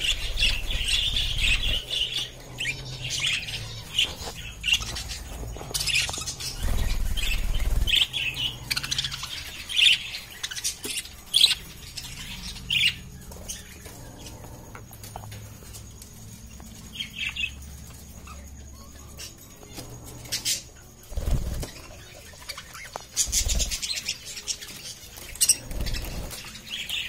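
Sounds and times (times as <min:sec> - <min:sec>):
budgerigars chirping: 0:00.0 - 0:15.3, 0:16.6 - 0:27.0.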